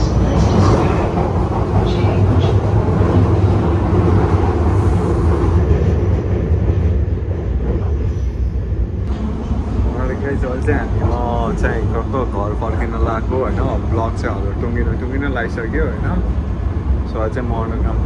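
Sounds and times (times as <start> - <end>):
underground train rumble: 0.0 - 18.0.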